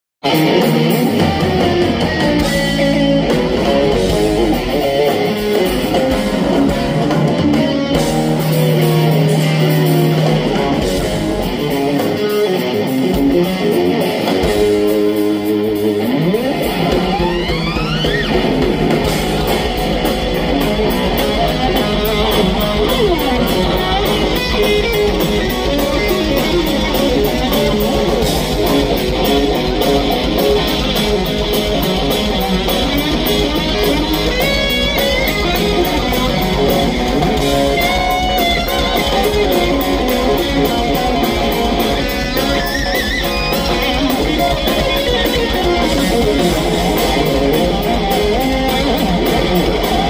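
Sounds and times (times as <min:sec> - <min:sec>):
lead electric guitar: 0:00.2 - 0:50.0
live instrumental rock: 0:00.2 - 0:50.0.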